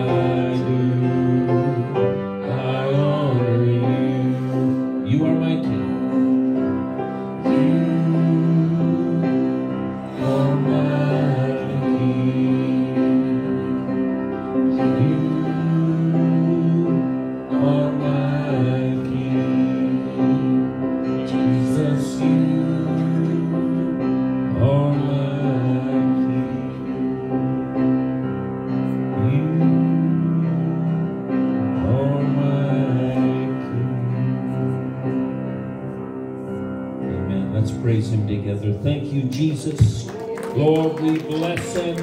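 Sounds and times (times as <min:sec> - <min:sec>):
slow soft worship music: 0:00.0 - 0:42.0.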